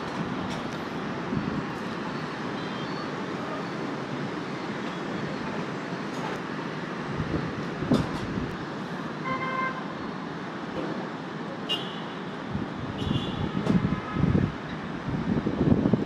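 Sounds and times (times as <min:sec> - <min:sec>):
city street traffic hum: 0:00.0 - 0:16.0.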